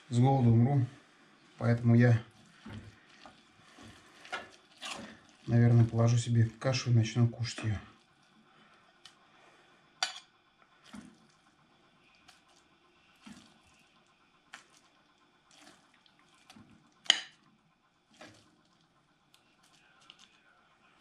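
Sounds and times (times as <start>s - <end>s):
wet porridge squelches: 0.5s - 21.0s.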